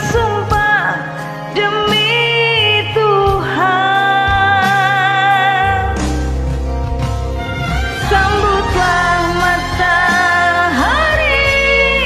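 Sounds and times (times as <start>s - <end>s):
lead melody with vibrato: 0.0s - 12.0s
pop ballad karaoke backing track: 0.0s - 12.0s.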